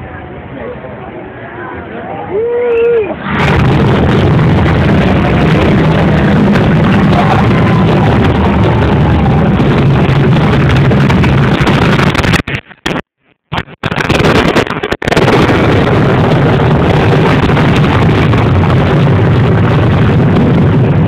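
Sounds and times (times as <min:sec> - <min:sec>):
loud rumble of volcano attraction: 0:00.0 - 0:21.0.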